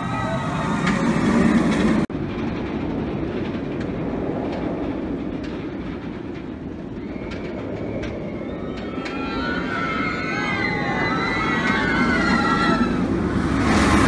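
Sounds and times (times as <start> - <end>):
roller coaster rumbling on track: 0.0 - 14.0.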